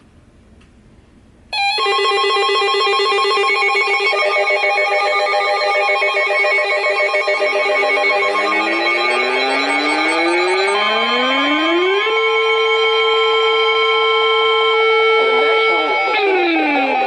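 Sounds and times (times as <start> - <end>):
electronic warbling alert tone: 2.5 - 17.0.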